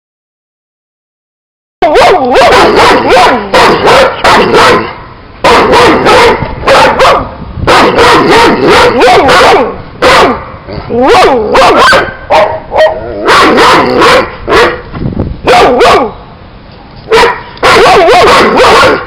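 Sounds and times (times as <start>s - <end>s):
dogs barking loudly: 1.8s - 16.2s, 17.1s - 19.0s.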